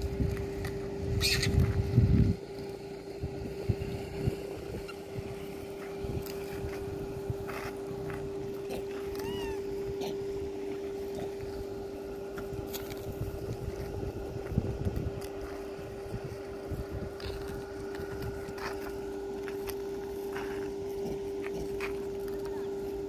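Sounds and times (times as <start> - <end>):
steady mechanical hum: 0.0 - 23.0
wind rumbling on microphone: 0.0 - 23.0.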